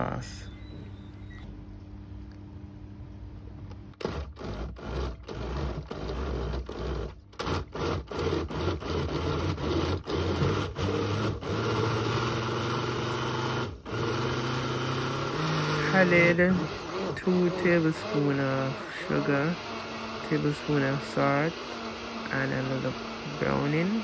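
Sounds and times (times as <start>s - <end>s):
blender motor running: 3.0s - 24.0s.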